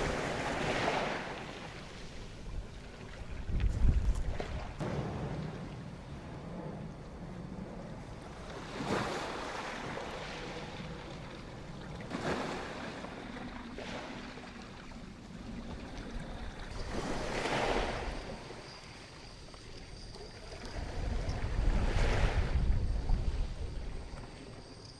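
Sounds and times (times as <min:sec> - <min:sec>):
ocean waves breaking: 0:00.0 - 0:03.4, 0:04.4 - 0:24.7
wind rumbling on microphone: 0:00.0 - 0:24.9.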